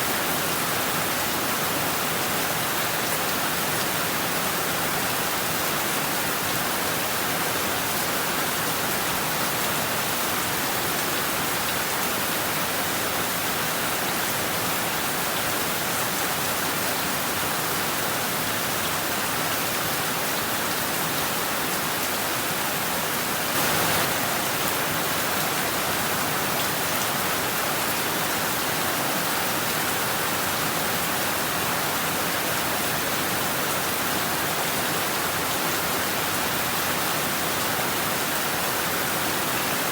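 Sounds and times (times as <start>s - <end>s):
heavy rain on rooftops: 0.0s - 39.9s.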